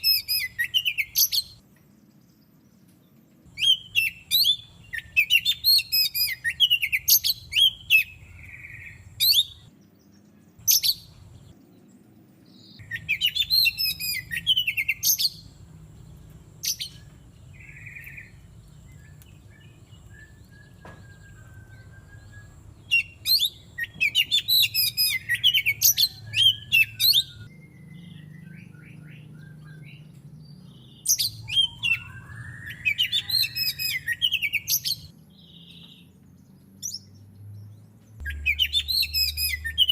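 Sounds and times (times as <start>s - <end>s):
magpie-robin singing: 0.0s - 1.6s, 3.5s - 11.8s, 12.4s - 39.9s.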